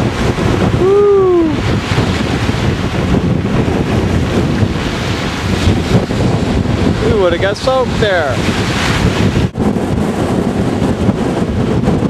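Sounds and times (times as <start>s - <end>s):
heavy surf breaking on cobbles: 0.0s - 12.0s
wind buffeting microphone: 0.0s - 12.0s.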